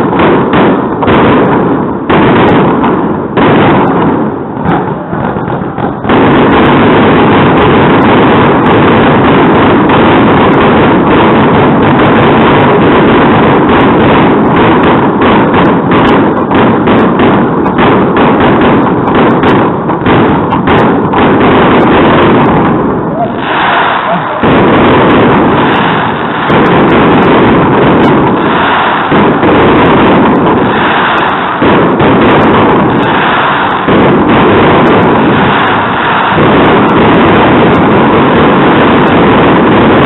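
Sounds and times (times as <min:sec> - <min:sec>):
fireworks bursting and crackling: 0:00.0 - 0:40.0.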